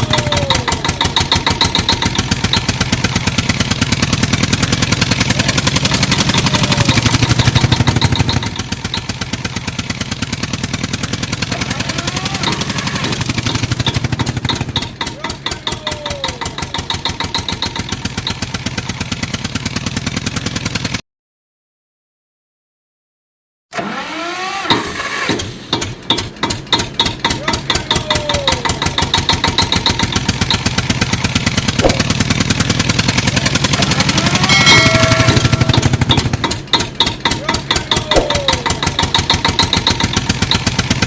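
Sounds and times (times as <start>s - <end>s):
tractor engine chugging: 0.0s - 21.0s, 23.8s - 41.0s.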